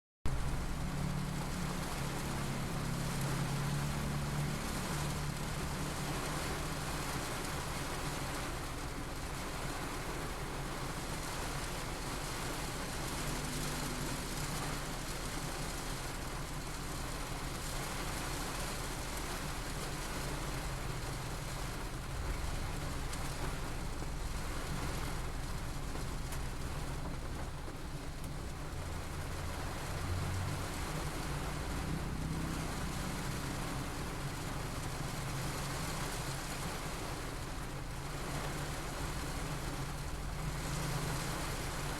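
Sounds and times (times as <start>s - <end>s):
steady rain falling: 0.3s - 41.9s.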